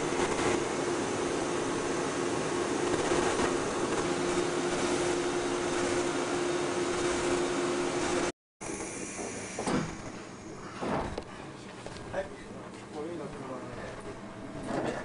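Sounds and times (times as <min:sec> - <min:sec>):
train equipment humming: 0:00.0 - 0:15.0.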